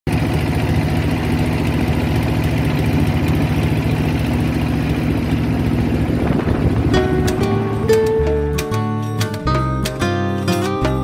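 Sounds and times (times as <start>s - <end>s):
boat engine running: 0.1s - 11.0s.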